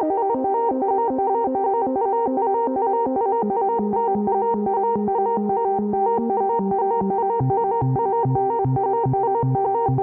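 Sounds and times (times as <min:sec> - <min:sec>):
synthesizer plucked notes: 0:00.0 - 0:10.0.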